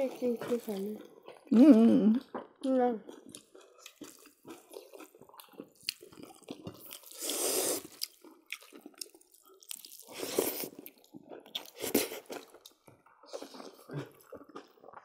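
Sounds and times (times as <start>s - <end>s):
wet chewing and lip smacking: 0.0s - 15.0s.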